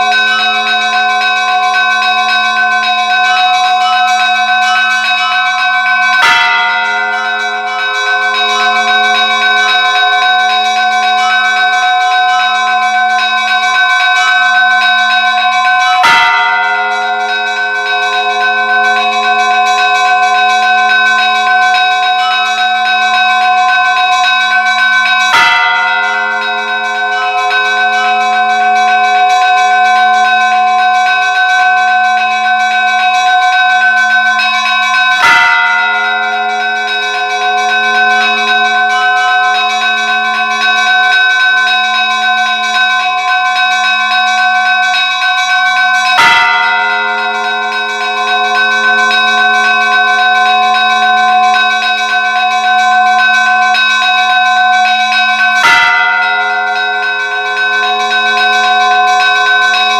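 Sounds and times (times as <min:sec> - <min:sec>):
church bell ringing: 0:00.0 - 0:59.9.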